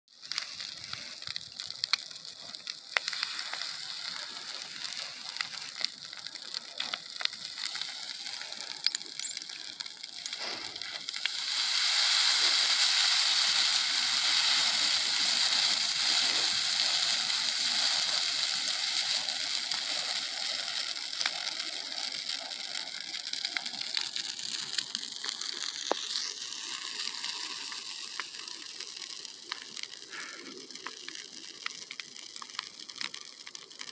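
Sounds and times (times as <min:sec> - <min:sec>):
brush fire crackling and popping: 0:00.1 - 0:33.9
fire flaring with rushing hiss: 0:00.1 - 0:33.9.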